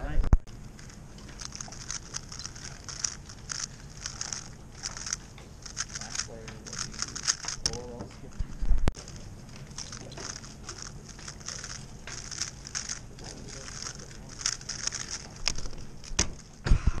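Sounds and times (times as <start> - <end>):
puzzle cube clicking and clacking: 0.7 - 16.6.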